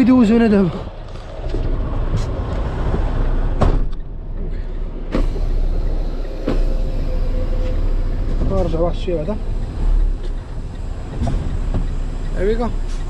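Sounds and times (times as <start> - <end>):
truck diesel engine rumble: 0.0 - 13.0.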